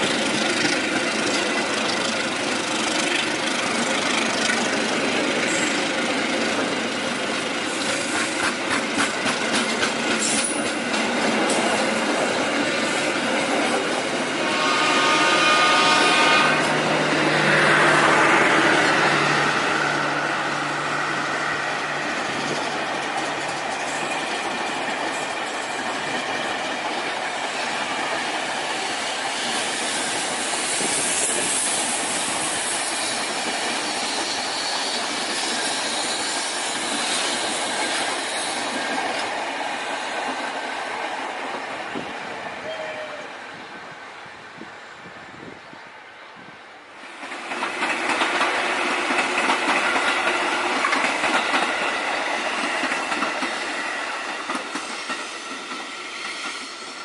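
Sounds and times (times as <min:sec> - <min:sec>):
train coaches rolling on rails: 0:00.0 - 0:57.0.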